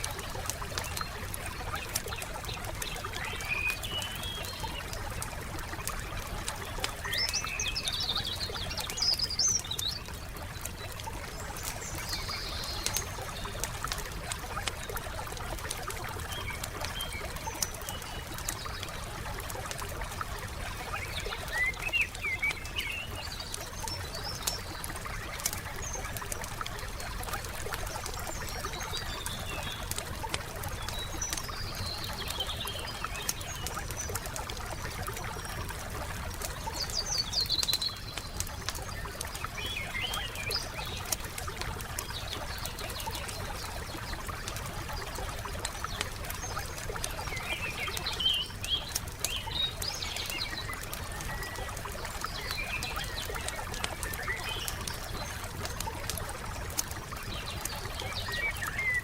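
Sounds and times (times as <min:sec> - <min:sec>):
wood fire crackling: 0:00.0 - 0:58.8
birds chirping: 0:00.0 - 0:59.0.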